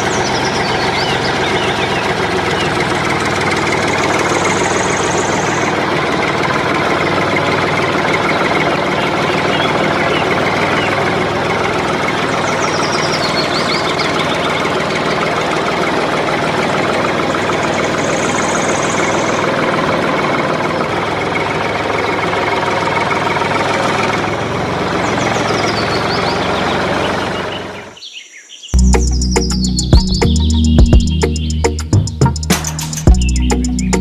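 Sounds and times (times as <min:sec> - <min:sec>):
small diesel engine running: 0:00.0 - 0:28.0, 0:28.8 - 0:34.0.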